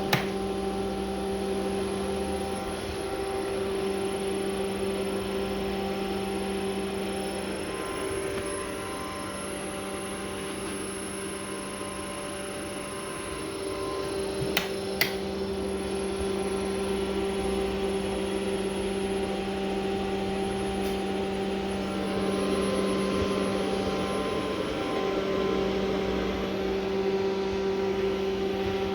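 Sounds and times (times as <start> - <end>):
electric motor humming and whining: 0.0 - 28.9.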